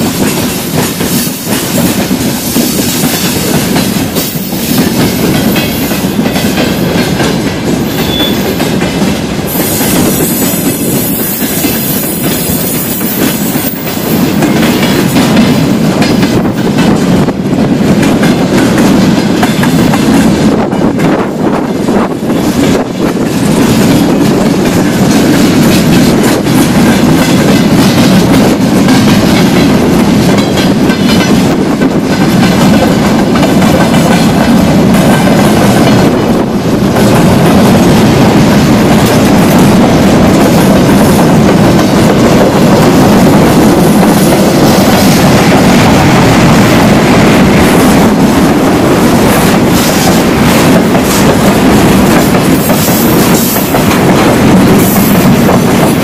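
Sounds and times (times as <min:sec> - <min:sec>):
clickety-clack over rail joints: 0:00.0 - 0:56.0
freight train wheels rumbling: 0:00.0 - 0:56.0.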